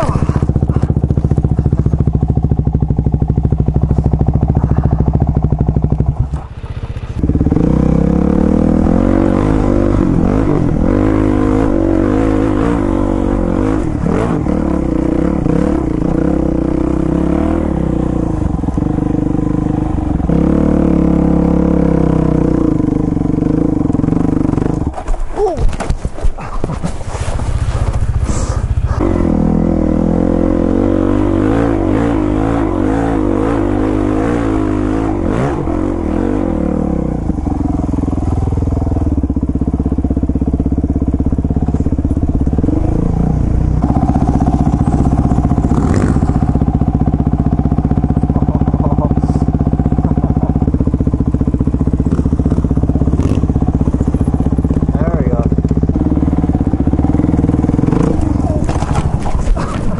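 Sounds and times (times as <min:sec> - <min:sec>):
dirt bike engine revving: 0:00.0 - 0:25.0, 0:27.4 - 0:59.9.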